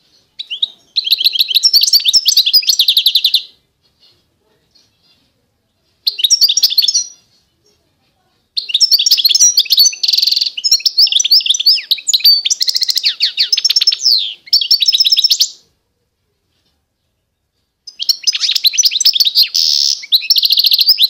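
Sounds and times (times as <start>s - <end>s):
finch singing: 0.0s - 7.9s, 8.6s - 15.6s, 17.0s - 21.0s.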